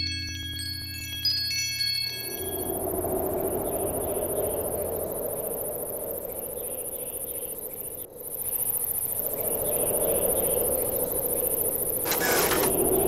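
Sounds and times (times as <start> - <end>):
crickets chirping: 2.0 - 13.0.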